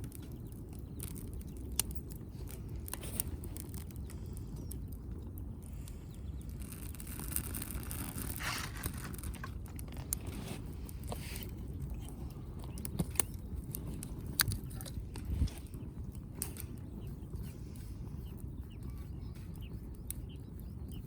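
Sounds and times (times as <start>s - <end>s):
sharp pops of fire: 0.0s - 17.6s
low steady rumble: 0.0s - 21.0s
wood fire crackling: 0.0s - 21.0s
hiss of fire: 1.2s - 18.5s.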